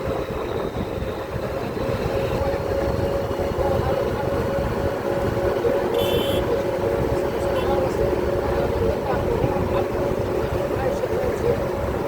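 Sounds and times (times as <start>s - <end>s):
vehicle rumble and hum: 0.0s - 12.0s.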